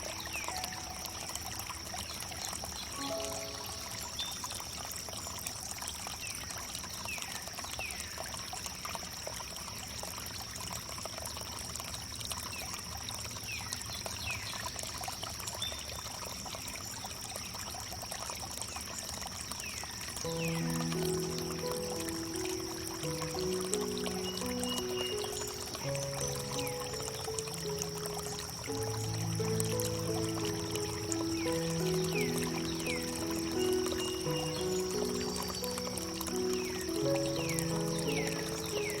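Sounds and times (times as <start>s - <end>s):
water pouring over wood: 0.0s - 39.0s.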